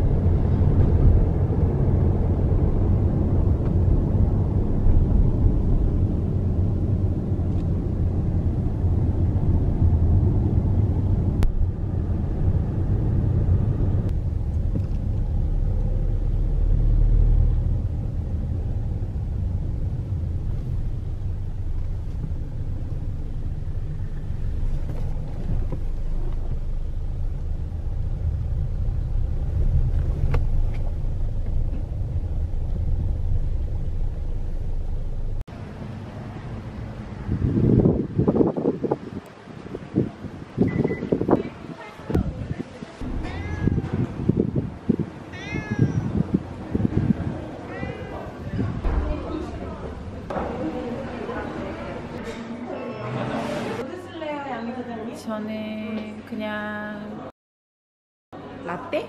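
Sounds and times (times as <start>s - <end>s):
car engine and road noise: 0.0s - 52.4s.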